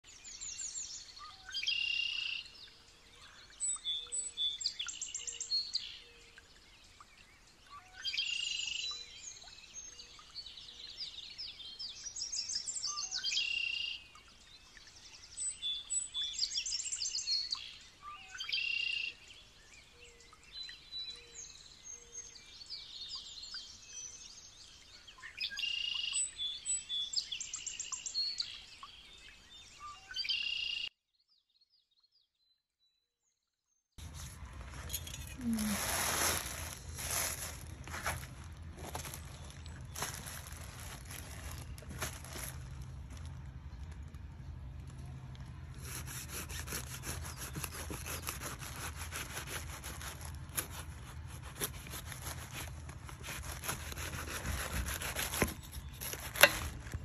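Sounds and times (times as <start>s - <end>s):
songbirds trilling and chirping: 0.1s - 30.9s, 34.1s - 57.0s.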